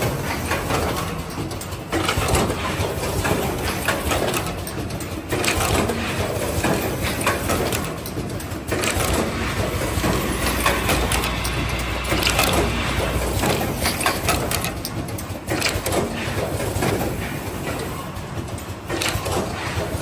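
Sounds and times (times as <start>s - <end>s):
machine hum: 0.0s - 20.0s
pneumatic grippers clacking: 0.0s - 20.0s.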